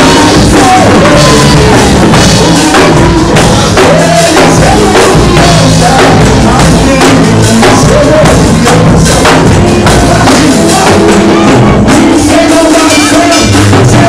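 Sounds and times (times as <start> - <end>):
drum kit beat: 0.0 - 14.0
gospel band playing: 0.0 - 14.0.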